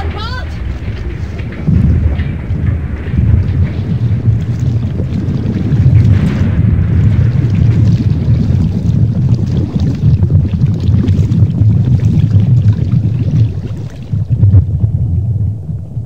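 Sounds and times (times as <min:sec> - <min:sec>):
rushing water: 0:00.0 - 0:14.9
heavy low rumble: 0:00.0 - 0:16.0.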